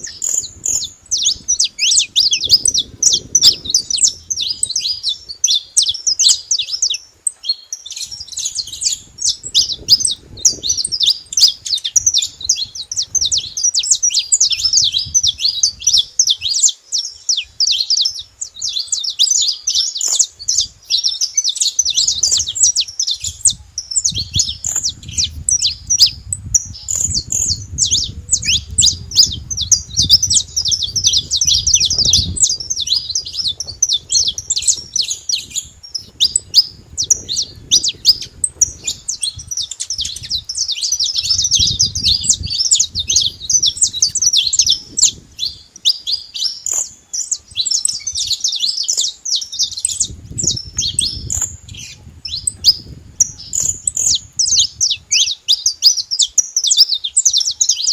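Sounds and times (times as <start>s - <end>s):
finch singing rapid chirps: 0.0s - 57.9s.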